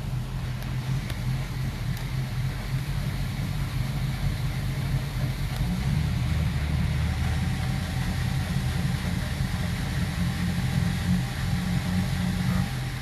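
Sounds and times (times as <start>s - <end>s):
boat engines idling: 0.0s - 13.0s.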